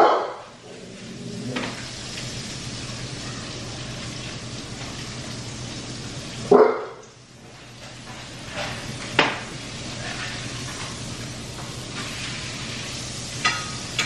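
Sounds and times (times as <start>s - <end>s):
steak sizzling in a pan: 1.7s - 6.5s, 7.2s - 14.0s.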